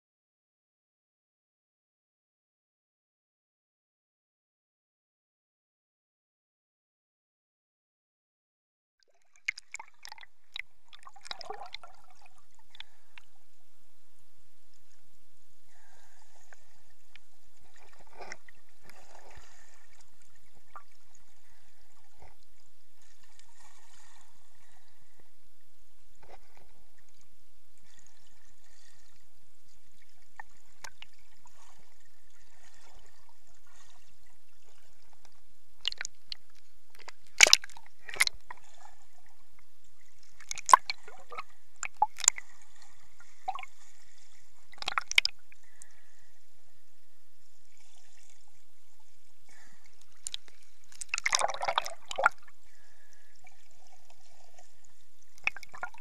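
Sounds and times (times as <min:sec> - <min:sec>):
underwater sloshing and gurgling: 0:09.0 - 0:56.0.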